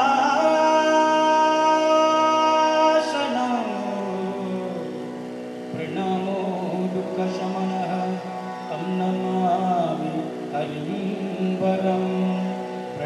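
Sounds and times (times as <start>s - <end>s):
man singing devotional chant: 0.0s - 5.1s, 5.7s - 13.0s.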